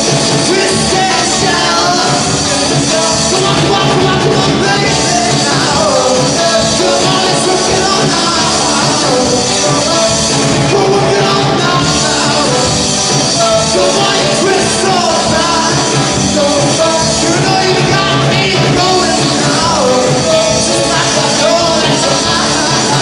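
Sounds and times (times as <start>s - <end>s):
drum kit: 0.0s - 23.0s
electric guitar: 0.0s - 23.0s
man singing: 0.0s - 23.0s.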